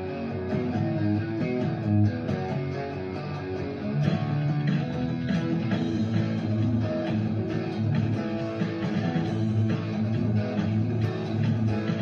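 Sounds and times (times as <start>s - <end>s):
guitar plucking and strumming: 0.0s - 12.0s.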